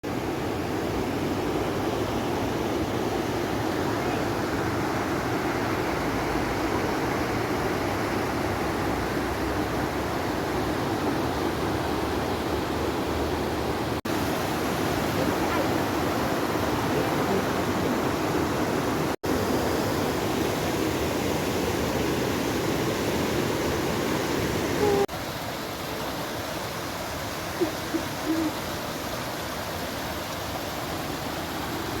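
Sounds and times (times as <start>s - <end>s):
river water rushing over rocks: 0.1s - 32.0s.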